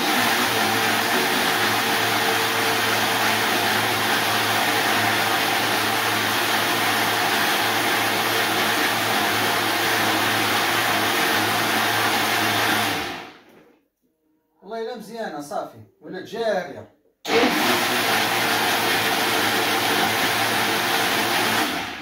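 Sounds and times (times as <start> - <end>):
electric grinder running: 0.0 - 13.3, 17.3 - 22.0.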